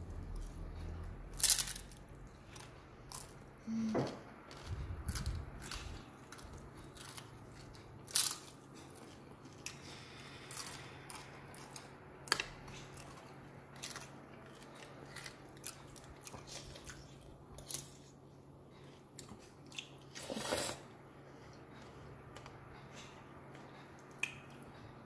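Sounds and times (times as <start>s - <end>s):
low steady hum: 0.0s - 25.0s
crunching and chewing: 0.1s - 24.9s.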